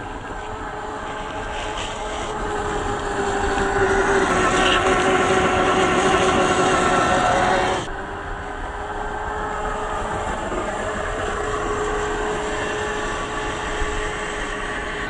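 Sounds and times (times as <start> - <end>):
toy truck motor whine: 0.0 - 15.0.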